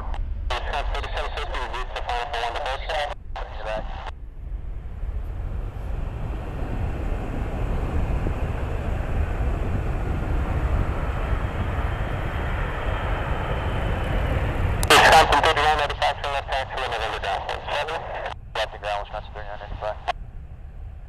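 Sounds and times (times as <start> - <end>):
aircraft engine rumble: 0.0 - 21.0.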